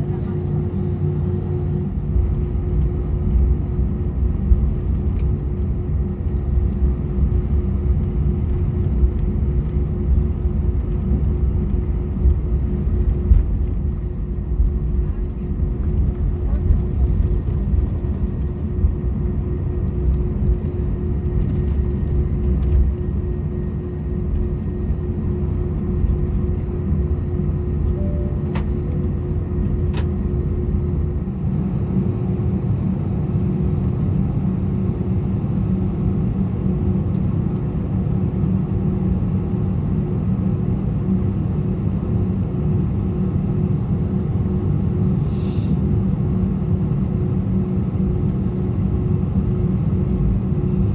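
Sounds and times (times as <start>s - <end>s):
aircraft cabin engine hum: 0.0s - 50.9s.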